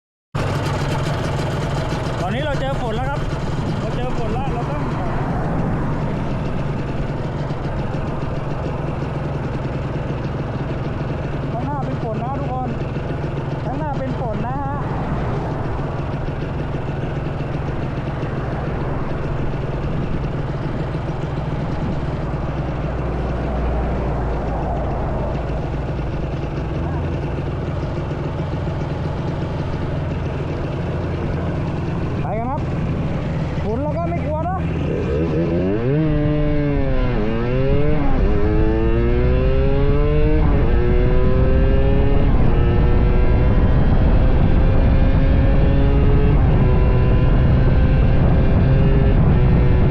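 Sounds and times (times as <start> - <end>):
two-stroke motorcycle engine running: 0.4 - 49.9
wind and road noise: 0.4 - 49.9.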